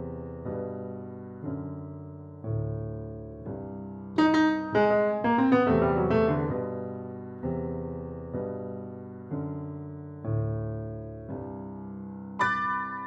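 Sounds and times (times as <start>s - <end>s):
grand piano playing: 0.0s - 13.0s.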